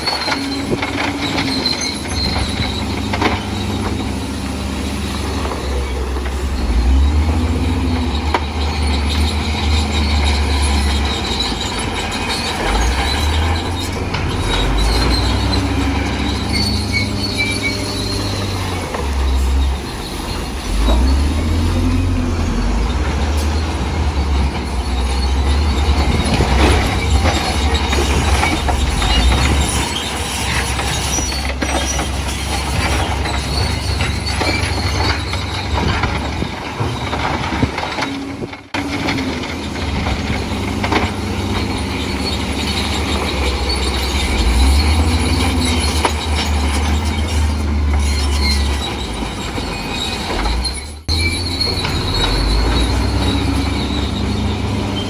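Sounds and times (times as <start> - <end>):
diesel engine under load: 0.0 - 55.0
steel tracks squealing and clanking: 0.0 - 55.0.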